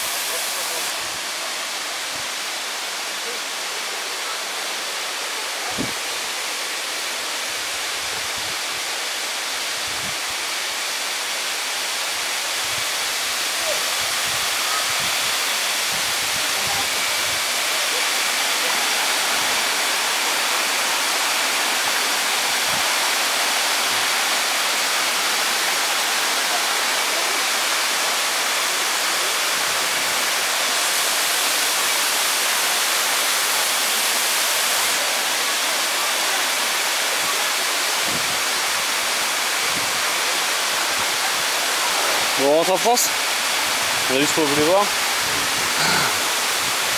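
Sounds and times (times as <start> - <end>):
water rushing down waterfall: 0.0 - 46.9.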